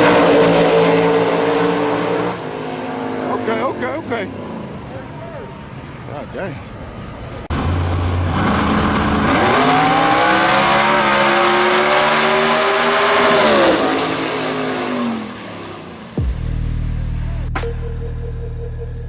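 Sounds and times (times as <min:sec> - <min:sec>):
drag racing cars at full throttle: 0:00.0 - 0:17.6.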